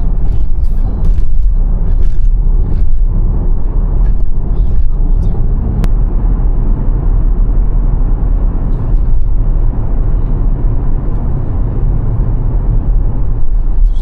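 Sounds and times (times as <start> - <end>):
car interior road and wind noise: 0.0 - 14.0.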